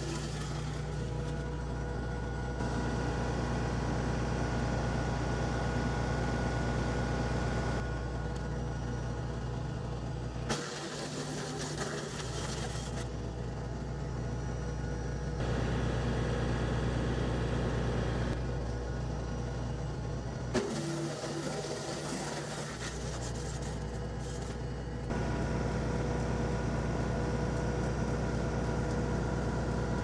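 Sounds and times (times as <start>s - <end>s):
diesel tractor running: 0.0s - 23.2s, 23.9s - 30.0s
wood chipper running: 0.0s - 30.0s.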